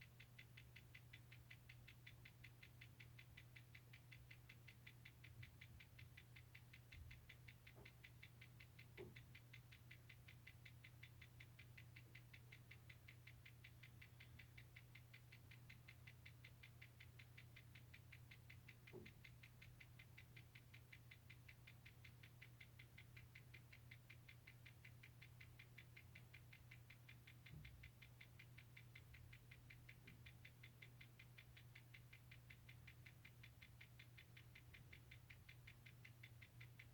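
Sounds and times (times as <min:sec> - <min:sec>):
fast even ticking: 0:00.0 - 0:36.9.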